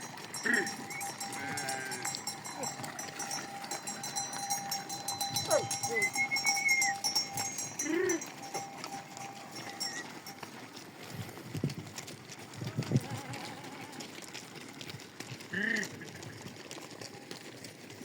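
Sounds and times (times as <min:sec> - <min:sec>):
sheep and goats bleating: 0:00.0 - 0:17.5.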